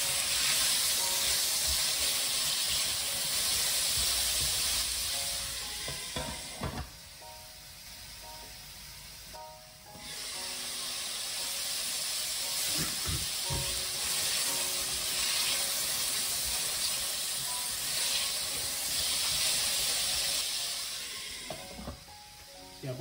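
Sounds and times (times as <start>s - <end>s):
carrots sizzling in hot oil: 0.0s - 23.0s.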